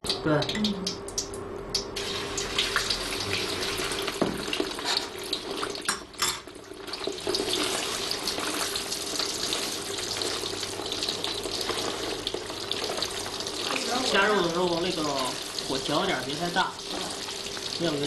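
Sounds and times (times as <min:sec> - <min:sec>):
meat sizzling in hot oil: 0:01.9 - 0:18.0.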